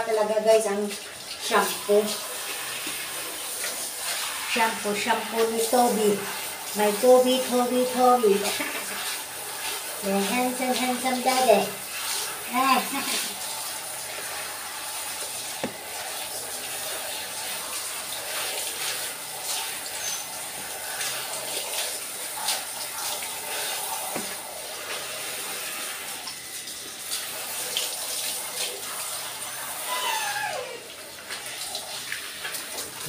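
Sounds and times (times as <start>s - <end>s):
shower head spraying water: 0.0s - 33.0s.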